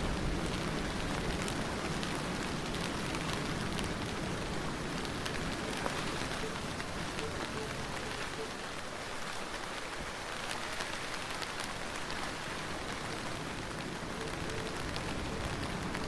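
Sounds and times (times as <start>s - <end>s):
heavy rain pattering: 0.0s - 16.0s.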